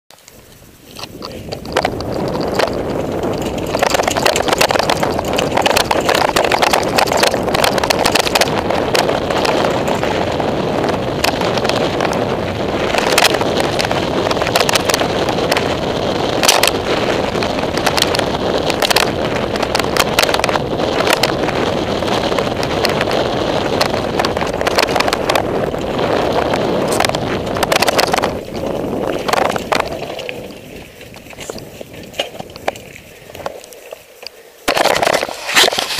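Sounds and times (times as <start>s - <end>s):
bike rattling over bumps: 0.1s - 35.9s
wind and tyre noise rushing: 0.1s - 35.9s.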